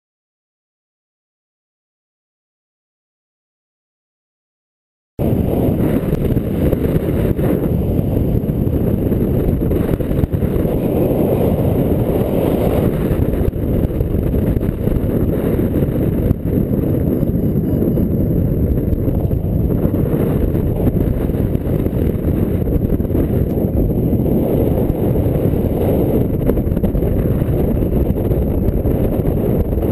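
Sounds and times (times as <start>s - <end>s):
wind rushing over microphone: 5.2s - 29.9s.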